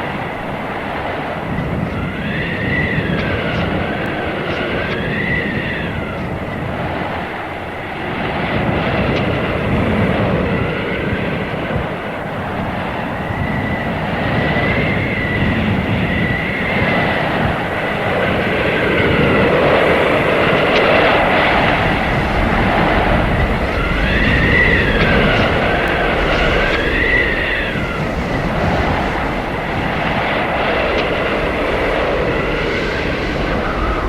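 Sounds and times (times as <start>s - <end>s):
blizzard wind gusting: 0.0s - 34.0s
howling wind whistle: 0.0s - 34.0s.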